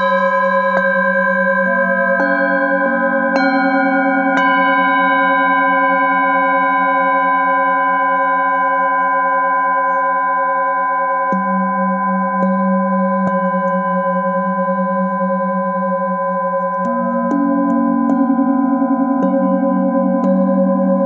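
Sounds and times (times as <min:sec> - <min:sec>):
singing bowls ringing: 0:00.0 - 0:21.0.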